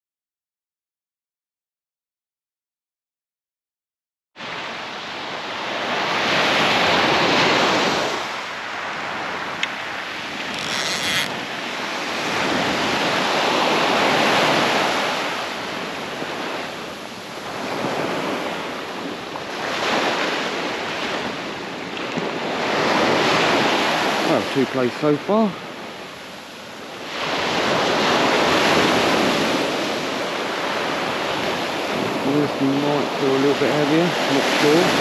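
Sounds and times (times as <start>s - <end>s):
small surf breaking on beach: 4.4s - 35.0s.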